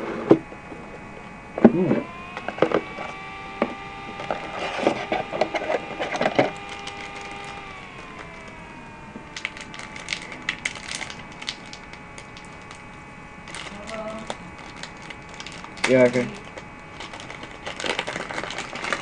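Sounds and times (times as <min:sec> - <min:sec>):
faint steady hum: 0:00.0 - 0:19.0
plastic packaging crackling: 0:02.1 - 0:19.0.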